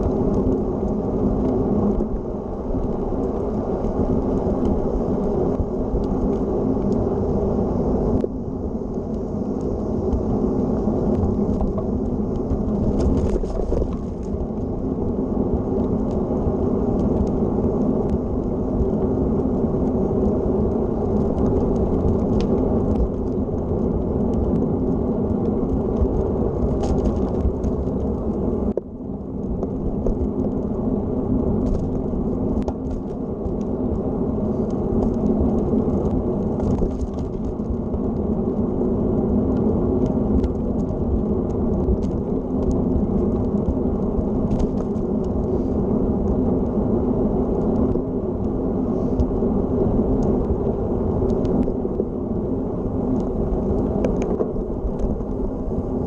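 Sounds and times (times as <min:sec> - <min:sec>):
bike tyres rolling on asphalt: 0:00.0 - 0:56.0
wind buffeting microphone: 0:00.0 - 0:56.0.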